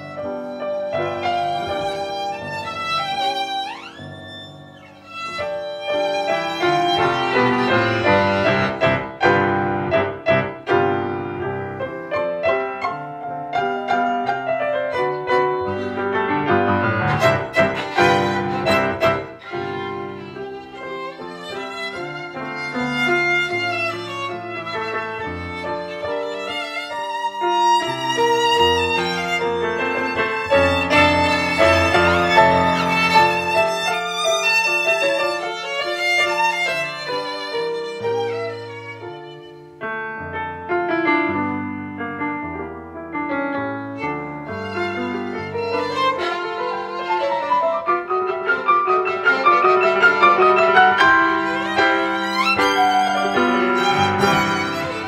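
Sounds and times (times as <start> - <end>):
bowed violin: 0.0 - 42.6, 43.2 - 55.0
piano accompaniment: 0.0 - 55.0.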